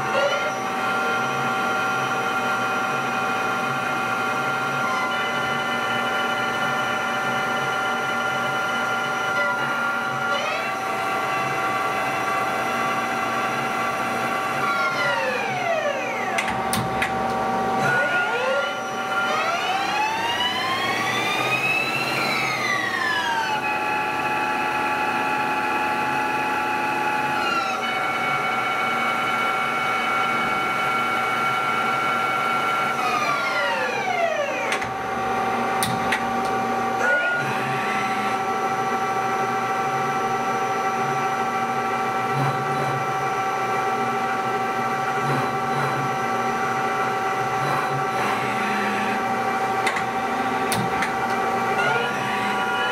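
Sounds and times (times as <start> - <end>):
lathe spindle whine: 0.0 - 52.9.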